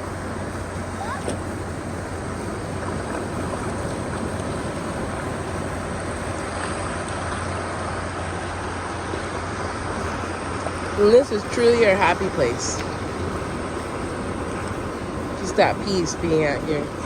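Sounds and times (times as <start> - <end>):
ocean surf: 0.0 - 17.0
wind noise on microphone: 0.0 - 17.0.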